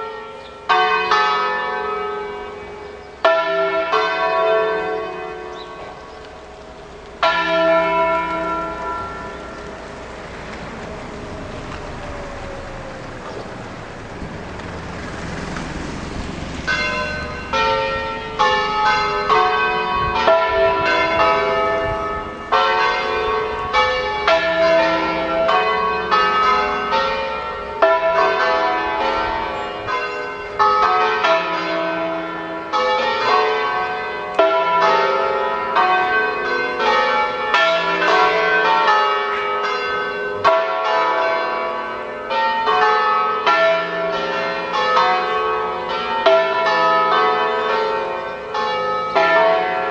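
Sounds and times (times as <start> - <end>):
church bells ringing: 0.0 - 14.0, 16.4 - 49.9.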